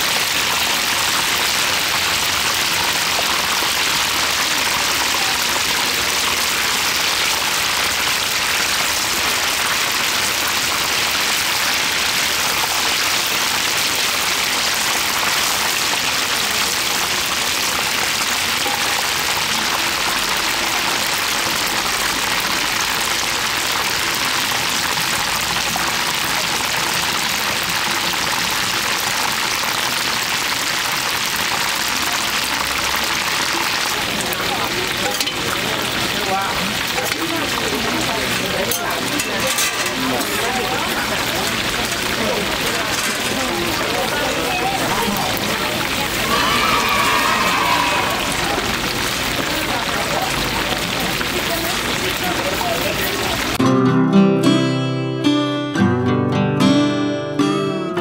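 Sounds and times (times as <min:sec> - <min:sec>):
oil sizzling in deep fryer: 0:00.0 - 0:53.6.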